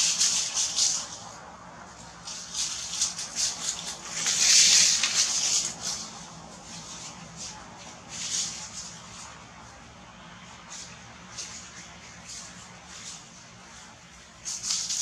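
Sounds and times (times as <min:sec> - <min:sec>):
dry leaves and brush rustling: 0:00.0 - 0:15.0.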